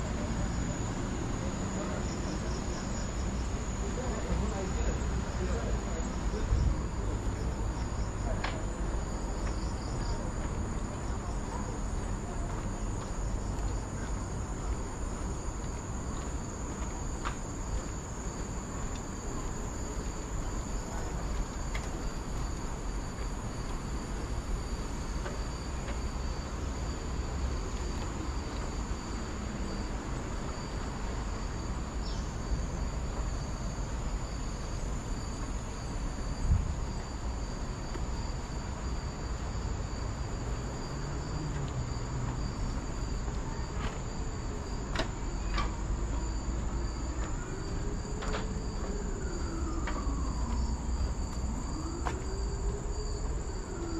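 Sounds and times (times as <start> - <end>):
constant low rumble: 0.0 - 53.9
high-pitched insect chorus: 0.0 - 53.9.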